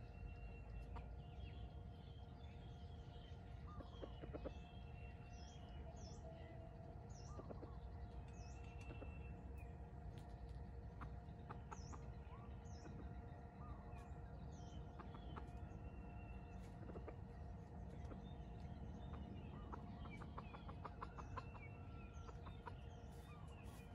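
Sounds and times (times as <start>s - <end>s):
small bird chirping: 0.0s - 23.9s
steady low hum: 0.0s - 23.9s.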